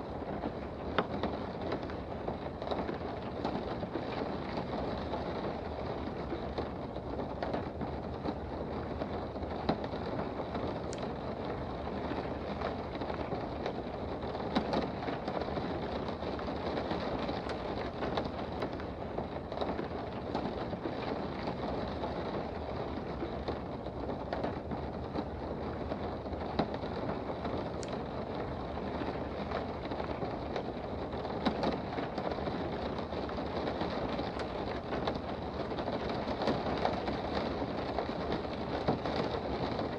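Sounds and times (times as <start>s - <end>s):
rain heard from indoors: 0.0s - 39.9s.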